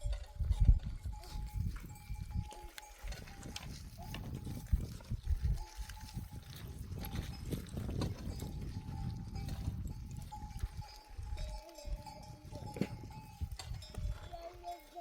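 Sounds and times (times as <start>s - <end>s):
livestock bells clanking: 0.0s - 15.0s.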